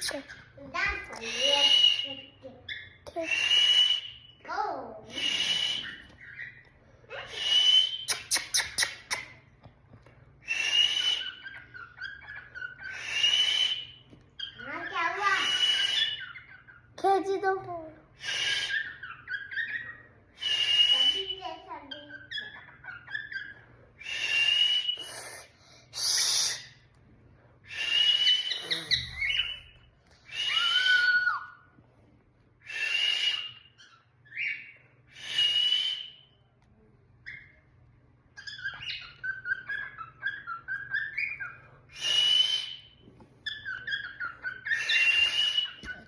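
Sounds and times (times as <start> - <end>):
cockatiel harsh calls: 0.0 - 4.2, 5.0 - 9.3, 10.4 - 17.0, 18.2 - 26.8, 27.7 - 31.7, 32.6 - 36.1, 38.4 - 46.0
cockatiel soft chirping chatter: 0.0 - 9.5, 10.4 - 17.5, 18.1 - 26.9, 27.8 - 31.8, 32.7 - 35.4, 37.1 - 46.0.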